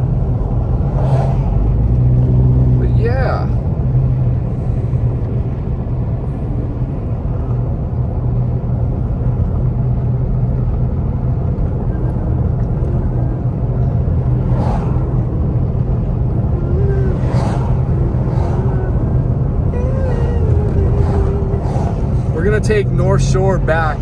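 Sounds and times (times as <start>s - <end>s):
car cabin road and engine drone: 0.0s - 24.0s.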